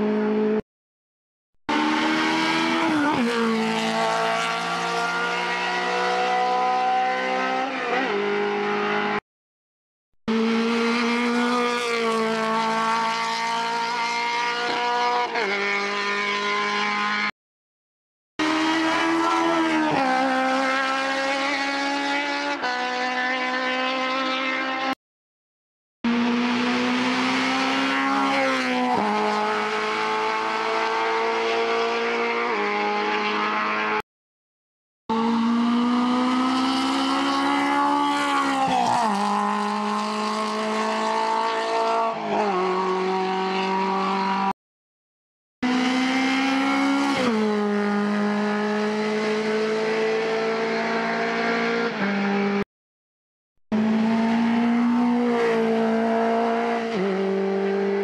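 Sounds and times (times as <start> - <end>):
race car engines accelerating: 1.7 - 9.2, 10.3 - 17.3, 18.4 - 25.0, 26.1 - 34.0, 35.1 - 44.5, 45.6 - 52.6, 53.8 - 58.0.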